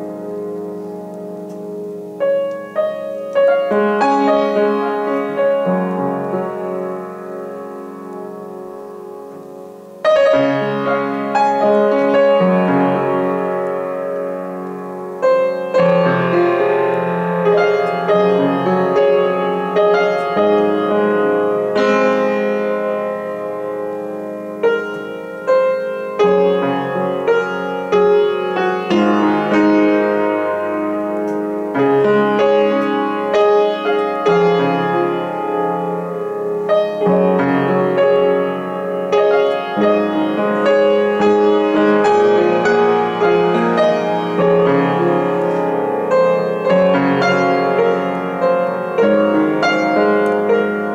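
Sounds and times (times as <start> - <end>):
upright piano playing: 0.0 - 50.9.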